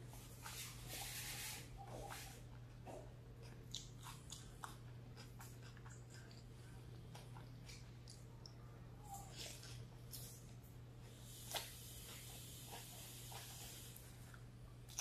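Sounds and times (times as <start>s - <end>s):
steady low hum: 0.0s - 15.0s
person chewing food: 1.8s - 15.0s.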